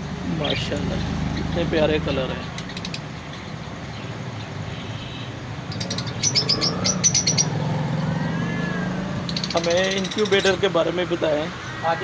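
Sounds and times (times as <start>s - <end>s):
finches chirping: 0.1s - 12.0s.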